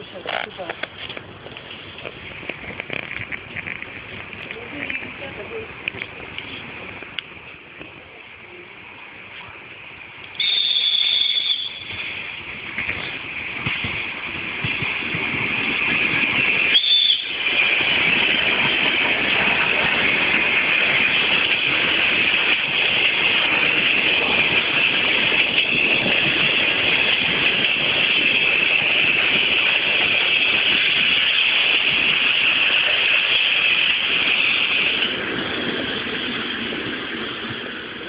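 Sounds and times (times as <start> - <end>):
train rolling on track: 0.0 - 38.0.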